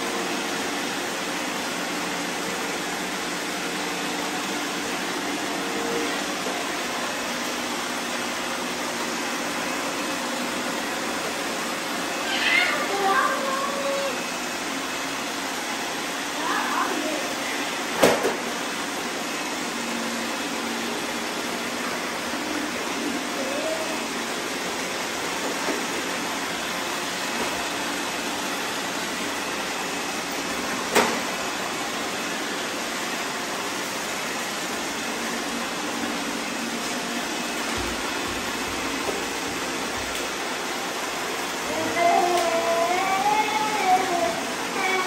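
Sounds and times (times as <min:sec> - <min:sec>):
robot vacuum cleaners whirring: 0:00.0 - 0:45.0.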